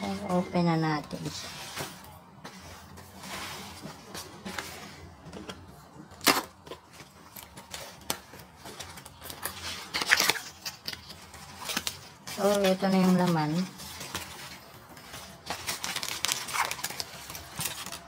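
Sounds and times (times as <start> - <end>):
cardboard rustling and scraping: 1.1 - 18.0.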